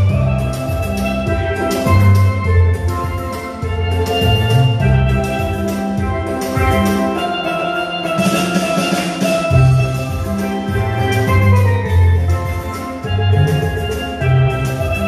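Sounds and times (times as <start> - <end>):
low bass notes: 0.0 - 7.1, 9.5 - 15.0
steel pan melody: 0.0 - 15.0.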